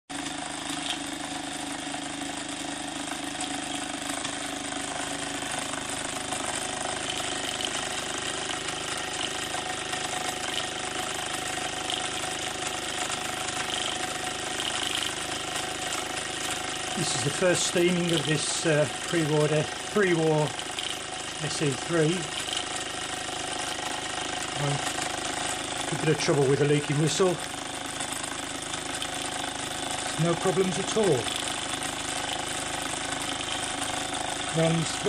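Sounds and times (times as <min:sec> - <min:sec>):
toy steam engine chuffing: 0:04.9 - 0:35.0.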